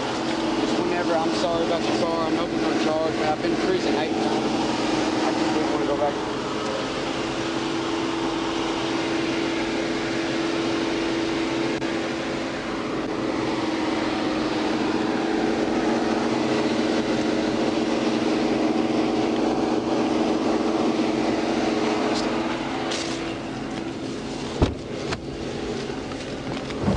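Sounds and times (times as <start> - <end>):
vehicle running with low hum: 0.0 - 26.9.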